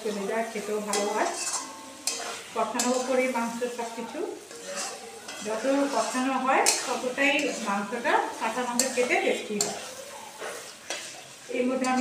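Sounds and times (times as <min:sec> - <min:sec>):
meat sizzling in a pan: 0:00.0 - 0:12.0
metal spatula scraping pan: 0:00.0 - 0:12.0.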